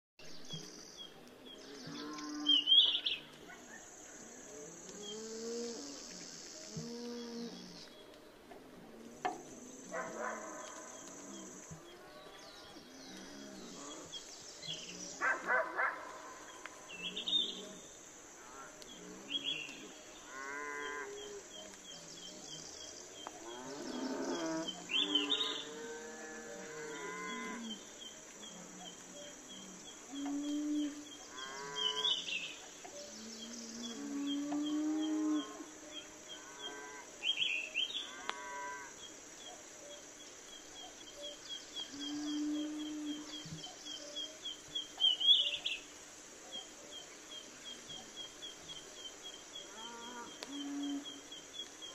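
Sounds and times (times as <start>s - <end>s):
steady high hiss: 0.2s - 51.9s.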